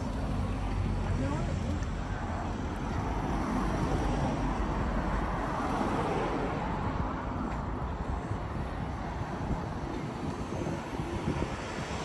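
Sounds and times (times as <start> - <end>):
city ambience: 0.0 - 12.0
wind rumble on microphone: 0.0 - 12.0.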